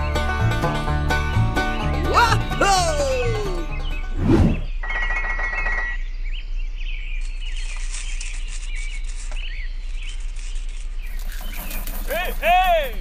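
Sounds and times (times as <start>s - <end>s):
small birds chirping: 1.6s - 13.0s.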